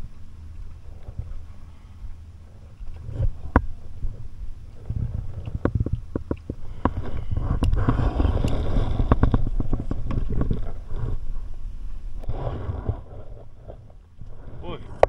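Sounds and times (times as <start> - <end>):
low rumbling handling noise: 0.0 - 15.0.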